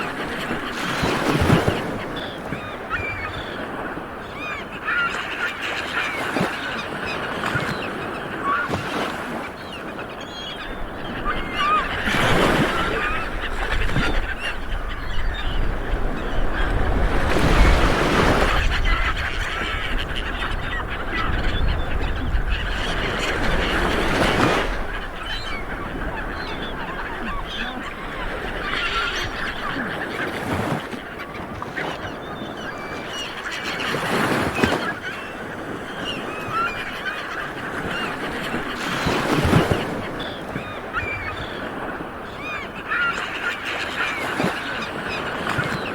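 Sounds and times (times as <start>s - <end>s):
small waves washing up beach: 0.0s - 45.9s
birds honking: 0.1s - 45.9s.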